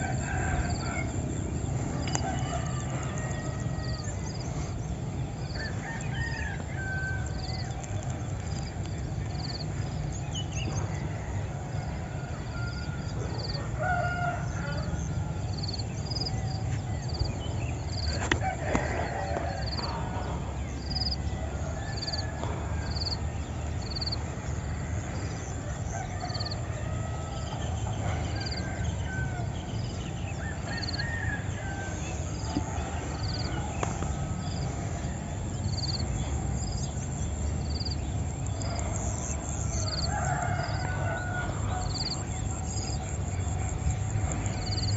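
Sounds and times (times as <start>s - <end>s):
birdsong: 0.0s - 44.9s
distant roosters crowing: 0.0s - 44.9s
steady low rumble: 0.0s - 44.9s.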